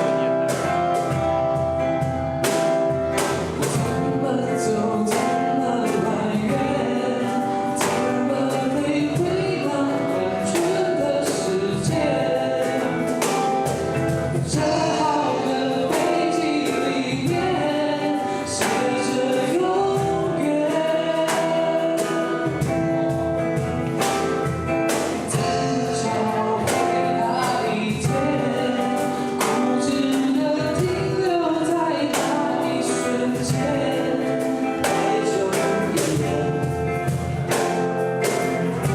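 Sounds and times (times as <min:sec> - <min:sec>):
strummed acoustic guitar: 0:00.0 - 0:38.9
group singing pop song: 0:03.6 - 0:23.2, 0:24.9 - 0:38.9.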